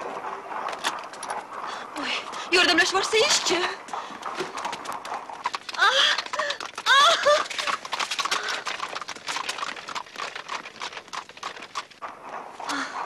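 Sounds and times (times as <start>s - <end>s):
hooves clip-clopping on road: 0.0s - 13.0s.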